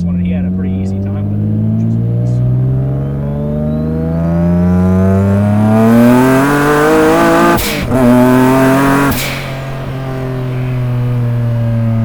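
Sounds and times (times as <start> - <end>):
car engine accelerating: 0.0 - 12.0
gear upshift: 0.0 - 12.0
turbo whine: 0.1 - 12.0.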